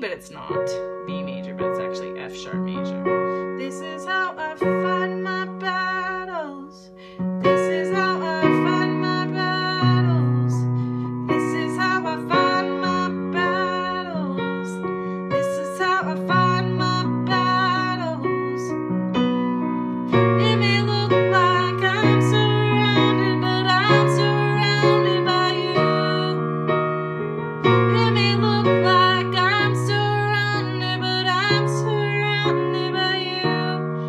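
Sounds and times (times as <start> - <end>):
woman singing: 0.0 - 18.8, 20.1 - 26.5, 27.7 - 34.0
piano chords: 0.0 - 34.0.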